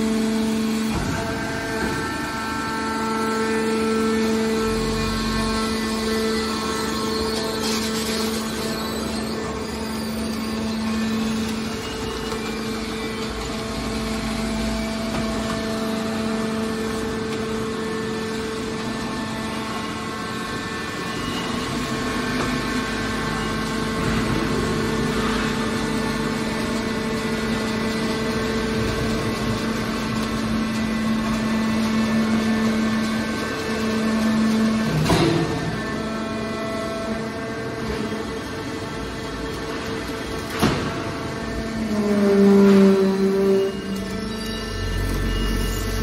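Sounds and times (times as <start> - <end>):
hydraulic power unit humming: 0.0 - 46.0.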